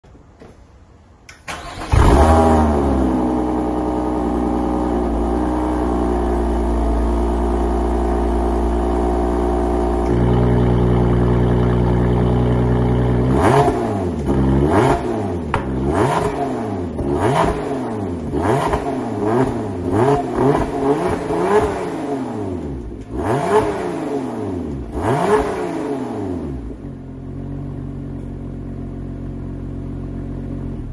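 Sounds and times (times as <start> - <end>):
car engine idling and revving: 1.5 - 30.9.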